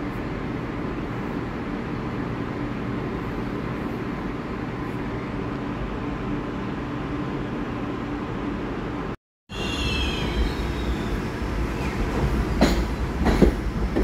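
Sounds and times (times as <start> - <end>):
city background noise: 0.0 - 14.0
distant subway train rumble: 0.0 - 14.0.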